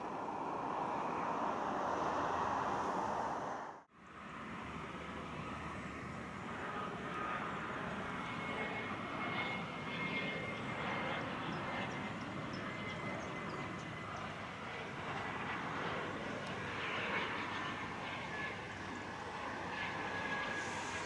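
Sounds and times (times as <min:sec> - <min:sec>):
jet engine rush: 0:00.0 - 0:21.0
thin high engine whine: 0:00.0 - 0:21.0.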